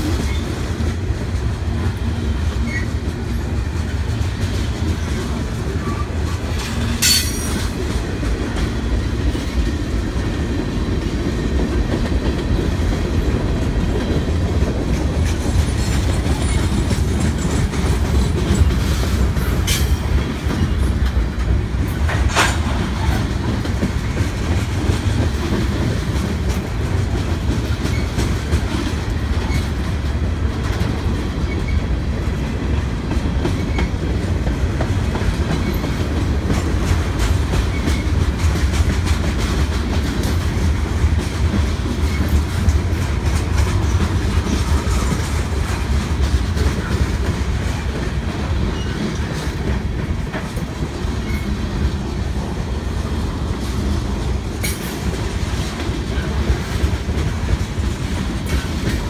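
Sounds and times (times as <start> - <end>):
clickety-clack over rail joints: 0.0 - 59.0
train wheels rumbling on rail: 0.0 - 59.0.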